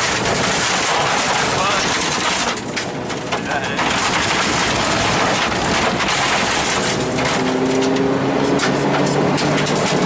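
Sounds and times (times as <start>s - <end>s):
car engine running: 0.0s - 10.0s
road and tyre noise: 0.0s - 10.0s
sharp ticks and knocks: 0.0s - 10.0s.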